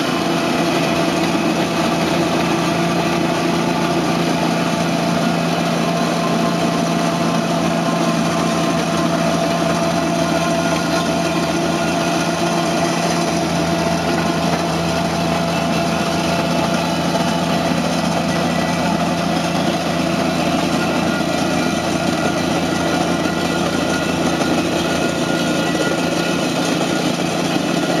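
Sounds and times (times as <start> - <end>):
loader engine running: 0.0 - 28.0
rake drum churning gravel: 0.0 - 28.0.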